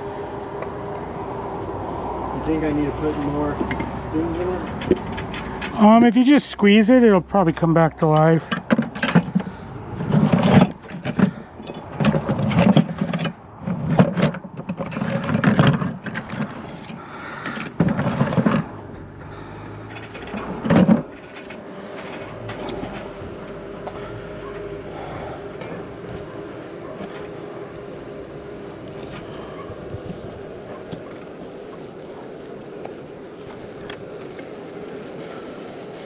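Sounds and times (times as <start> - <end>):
steady hum: 0.0 - 13.6, 14.8 - 36.0
bellows puffing: 0.8 - 13.9, 15.1 - 35.7.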